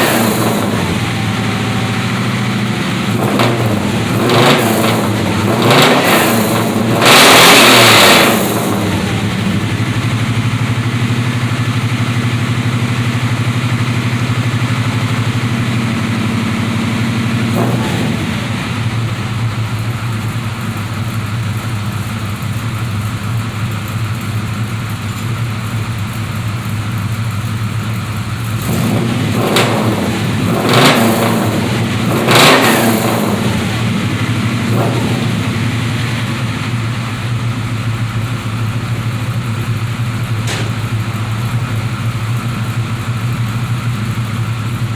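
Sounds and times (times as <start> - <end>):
car engine idling: 0.0 - 44.9
car engine revving: 0.0 - 44.9.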